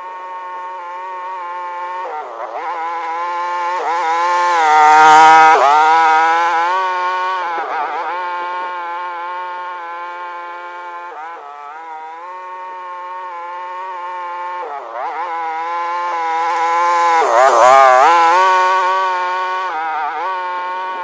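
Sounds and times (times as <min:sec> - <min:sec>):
small vehicle engine under load: 0:00.0 - 0:21.0.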